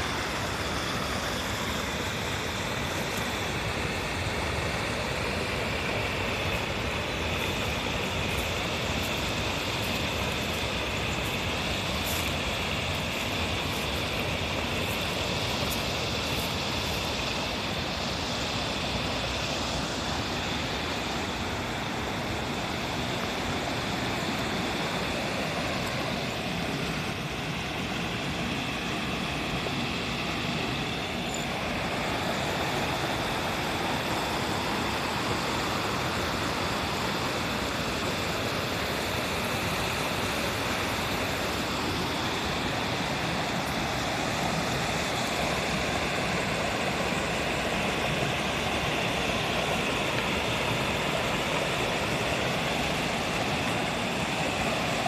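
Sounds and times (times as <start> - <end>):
stream water rushing over rocks: 0.0 - 55.0.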